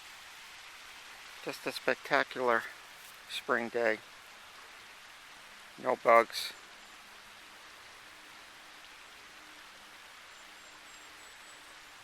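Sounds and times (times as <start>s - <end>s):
faint mountain stream rushing: 0.0s - 12.0s.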